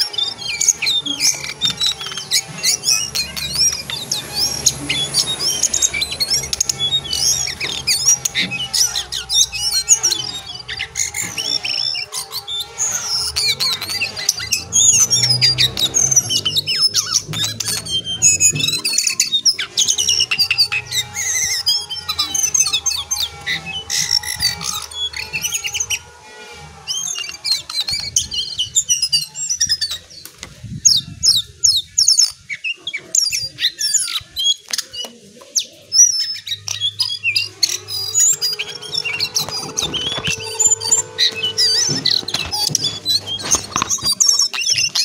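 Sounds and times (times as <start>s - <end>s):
bird singing chattering song: 0.0s - 45.0s.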